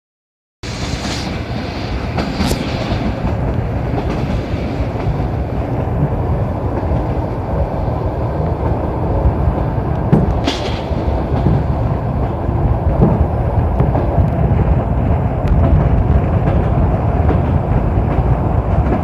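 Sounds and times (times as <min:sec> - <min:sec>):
electric train rumbling: 0:00.6 - 0:19.0.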